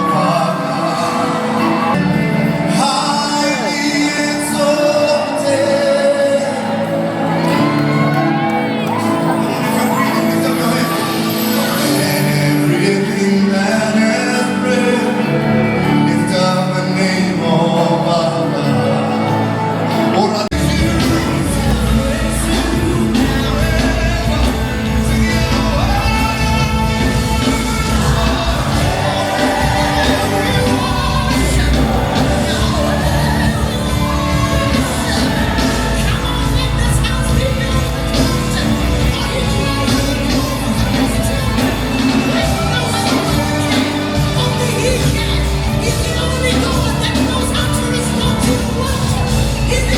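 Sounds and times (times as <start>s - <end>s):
gospel music with singing: 0.0s - 49.9s.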